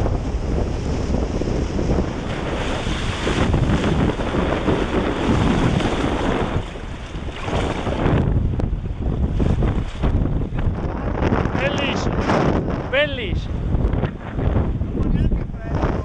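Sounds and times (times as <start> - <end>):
choppy water splashing: 0.0 - 16.0
wind buffeting microphone: 0.0 - 16.0.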